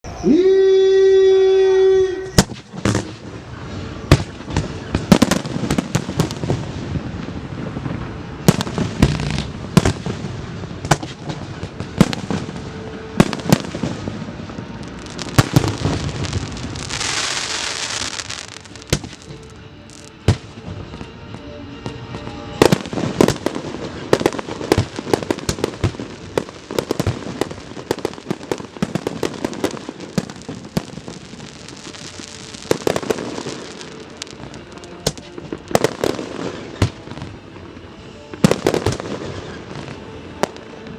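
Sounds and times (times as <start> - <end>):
fireworks hissing rush: 2.4 - 21.2, 22.0 - 40.9
fireworks bangs and crackles: 2.4 - 40.9.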